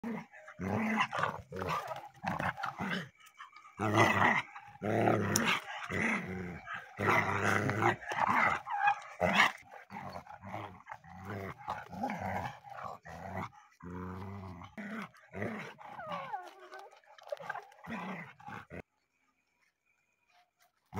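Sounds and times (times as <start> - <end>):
dogs snarling and growling: 0.0 - 18.9.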